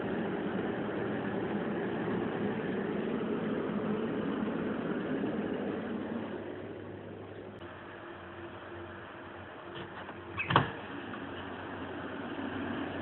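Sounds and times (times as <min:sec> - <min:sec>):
machine hum and hiss: 0:00.0 - 0:13.0.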